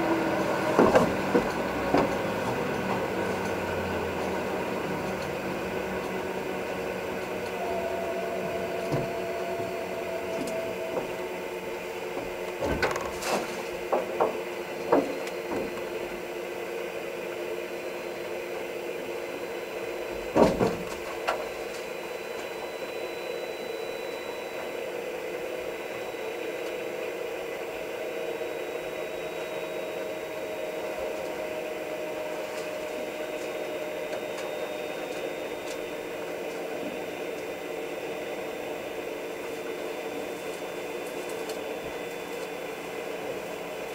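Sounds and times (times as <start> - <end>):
turboprop engine idling whine: 0.0 - 43.9.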